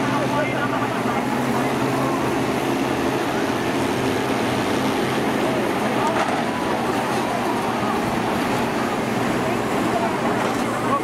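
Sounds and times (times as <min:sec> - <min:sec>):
combine harvester engines running: 0:00.0 - 0:11.0.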